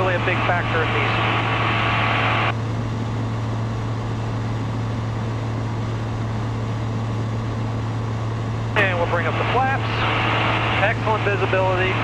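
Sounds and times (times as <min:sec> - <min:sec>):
light airplane engine drone: 0:00.0 - 0:12.0.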